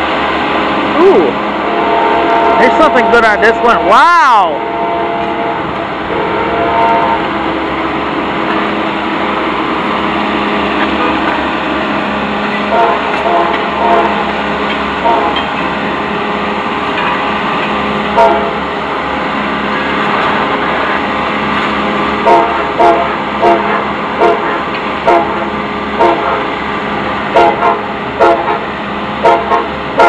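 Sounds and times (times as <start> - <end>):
diesel locomotives rumbling: 0.0 - 30.0.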